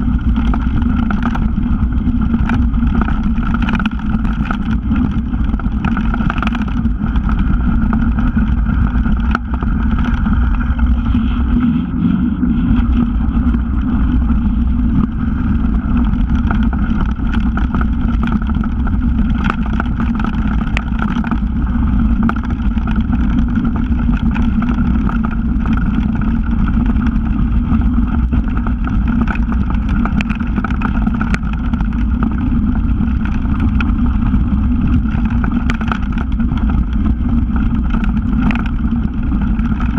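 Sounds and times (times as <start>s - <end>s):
bike rattling and knocking: 0.0s - 11.8s, 12.5s - 39.9s
wind rushing over camera: 0.0s - 39.9s.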